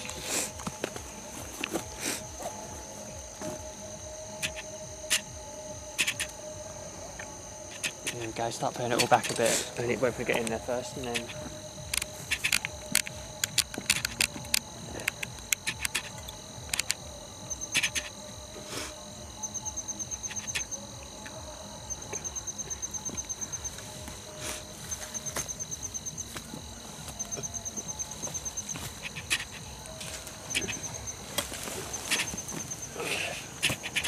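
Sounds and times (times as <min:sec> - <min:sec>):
cricket chirp trills: 0:00.0 - 0:34.0
high-pitched insect whine: 0:00.0 - 0:34.0.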